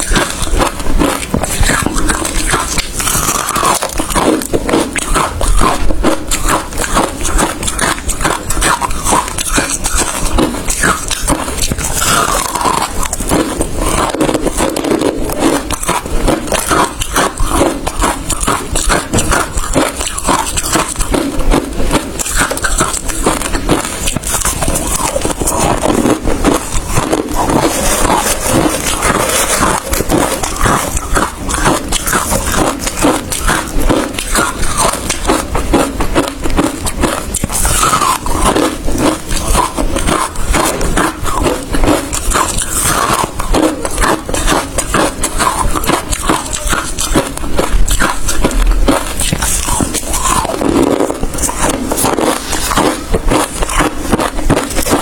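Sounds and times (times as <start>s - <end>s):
ice crunching while chewed: 0.0s - 55.0s.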